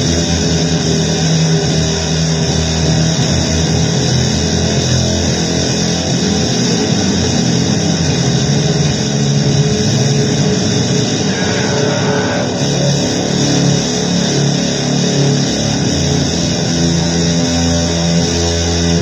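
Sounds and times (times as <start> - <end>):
distorted electric guitar noise music: 0.0 - 19.0.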